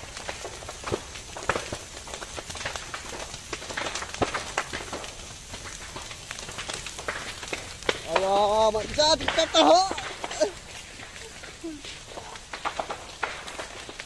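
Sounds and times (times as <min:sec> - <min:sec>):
flames hissing: 0:00.0 - 0:14.0
grass fire crackling and popping: 0:00.0 - 0:14.0.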